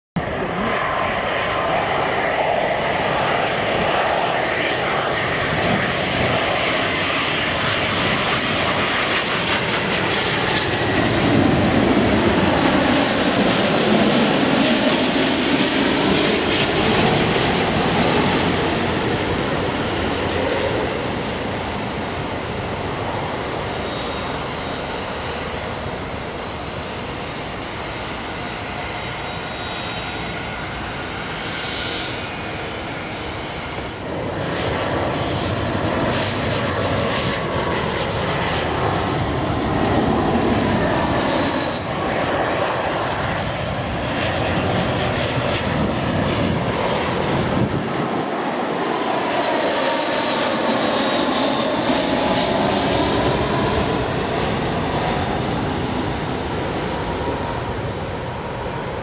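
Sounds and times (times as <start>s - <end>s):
jet airliners passing low: 0.2s - 59.0s.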